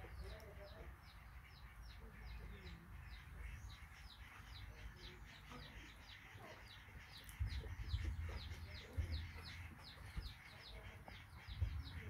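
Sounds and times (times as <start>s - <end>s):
birds chirping: 0.0s - 12.0s
low clucking bird calls: 0.0s - 12.0s.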